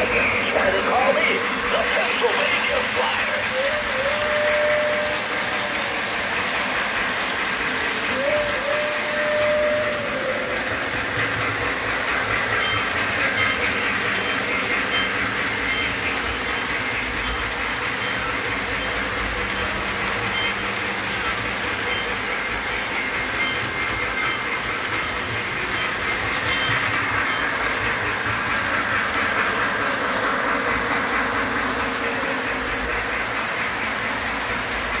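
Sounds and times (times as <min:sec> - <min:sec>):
model train rolling rumble: 0:00.0 - 0:35.0
light clickety-clack: 0:03.3 - 0:35.0.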